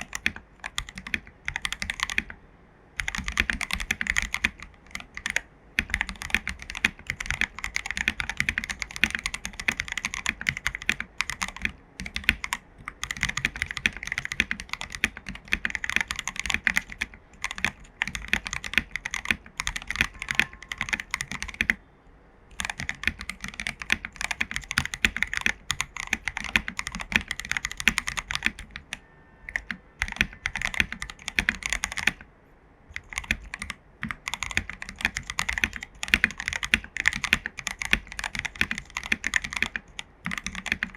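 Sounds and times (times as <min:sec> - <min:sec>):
mechanical keyboard typing: 0:00.0 - 0:02.4, 0:03.0 - 0:21.8, 0:22.5 - 0:32.3, 0:32.9 - 0:40.9.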